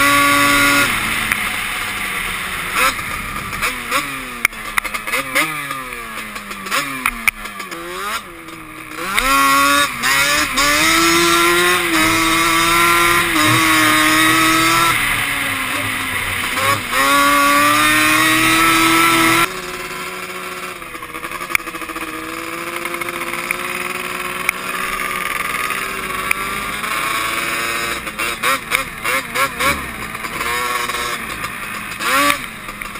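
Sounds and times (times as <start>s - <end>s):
distant quad engines: 0.0s - 32.9s
quad engines revving: 0.0s - 32.9s.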